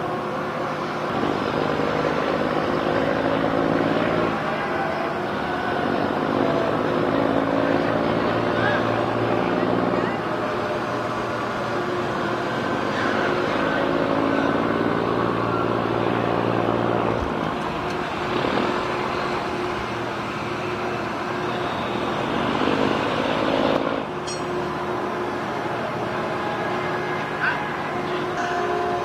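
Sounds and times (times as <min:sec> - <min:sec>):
diesel engine low drone: 0:00.0 - 0:29.0.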